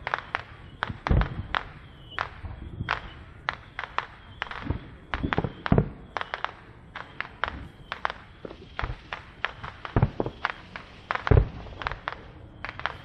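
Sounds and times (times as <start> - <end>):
deep firework booms: 0.0 - 13.0
firework cracks: 0.0 - 13.0.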